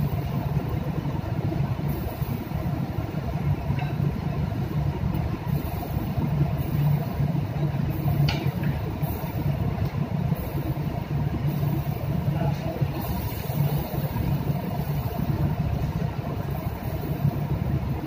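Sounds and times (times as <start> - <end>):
ship machinery drone: 0.0 - 18.0.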